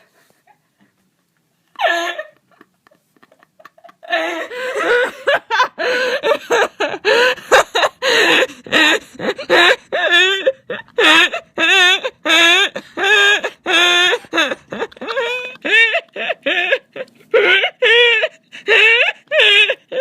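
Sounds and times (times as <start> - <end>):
woman laughing: 0.9 - 20.0.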